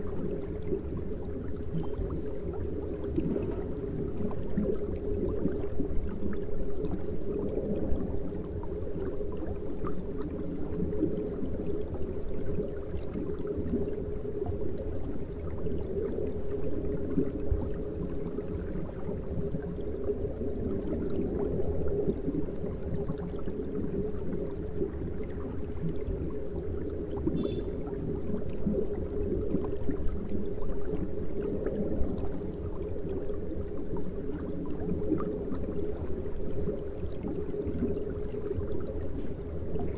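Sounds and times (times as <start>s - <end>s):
aquarium filter bubbling: 0.0s - 39.9s.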